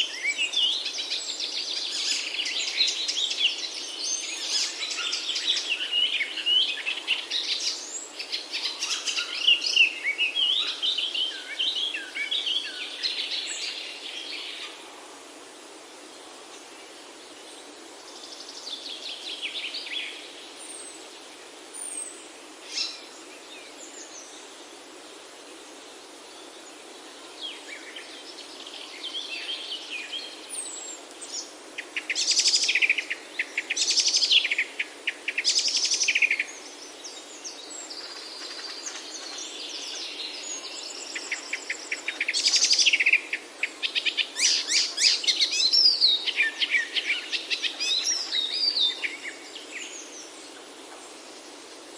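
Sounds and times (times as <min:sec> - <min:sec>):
soft background hiss: 0:00.0 - 0:51.9
songbirds trilling and chirping: 0:00.0 - 0:51.9.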